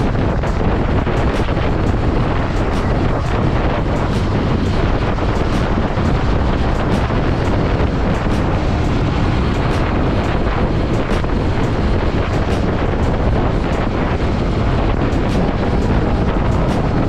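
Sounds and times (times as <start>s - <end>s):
motorcycle running: 0.0s - 17.0s
wind buffeting microphone: 0.0s - 17.0s.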